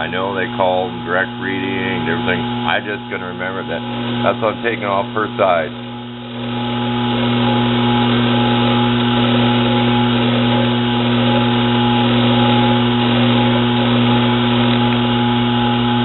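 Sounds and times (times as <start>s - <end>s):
metal lathe running: 0.0s - 16.0s.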